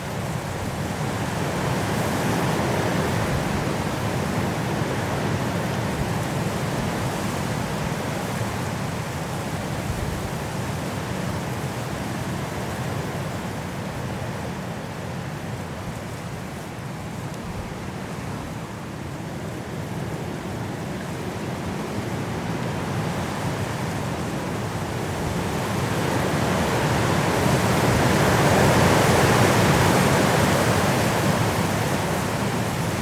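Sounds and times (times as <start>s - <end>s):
strong wind through trees: 0.0s - 33.0s.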